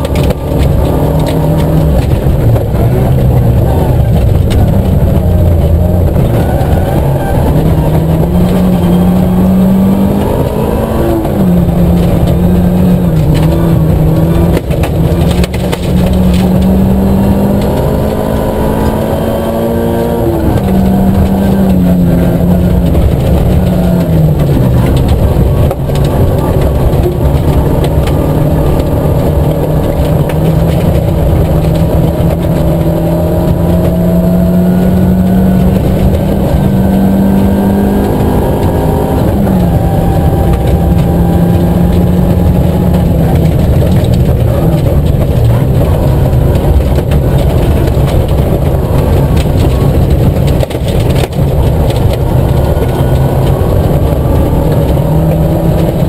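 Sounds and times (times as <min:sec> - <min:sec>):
car engine revving hard: 0:00.0 - 0:56.0
tyre and gravel road noise: 0:00.0 - 0:56.0.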